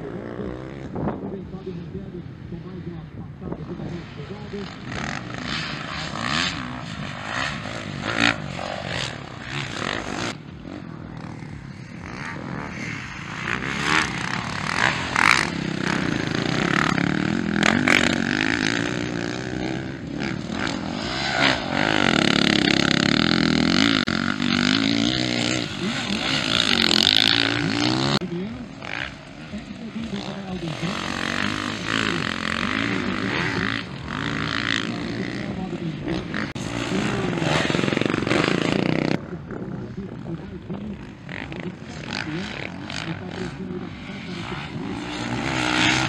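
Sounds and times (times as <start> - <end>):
dirt bike engines revving: 0.0 - 46.0.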